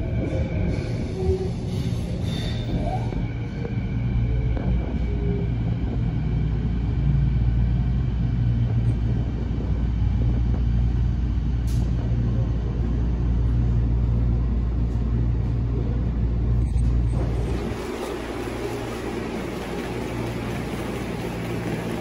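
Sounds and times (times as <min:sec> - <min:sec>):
train rumble and hum: 0:00.0 - 0:22.0.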